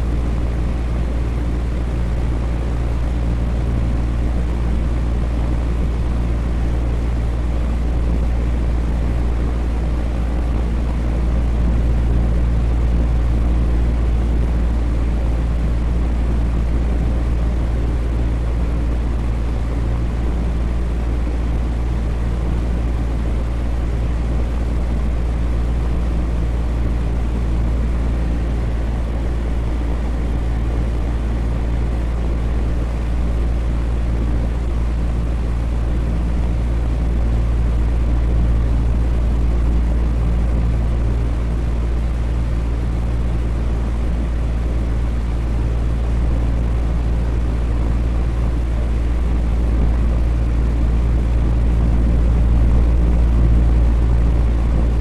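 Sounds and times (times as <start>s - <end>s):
electric fan whoosh: 0.0s - 55.0s
faint motor hum: 0.0s - 55.0s.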